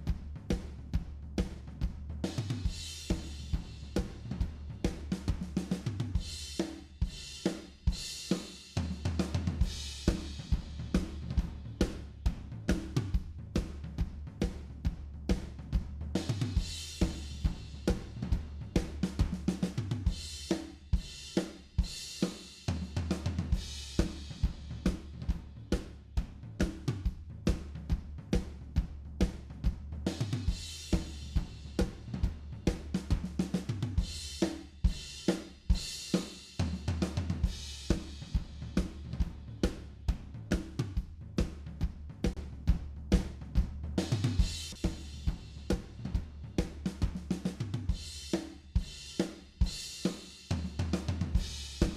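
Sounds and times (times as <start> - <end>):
drum kit playing fast groove: 0.0 - 51.9.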